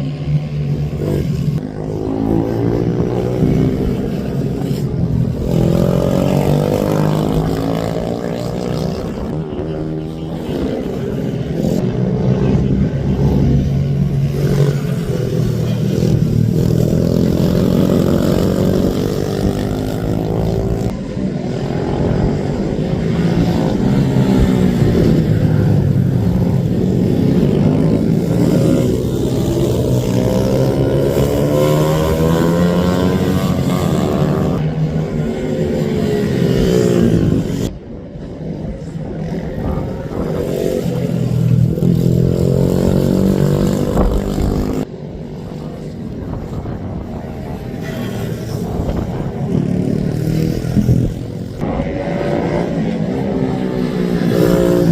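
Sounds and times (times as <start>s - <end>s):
minibike engines revving: 0.0s - 37.7s, 38.5s - 54.9s.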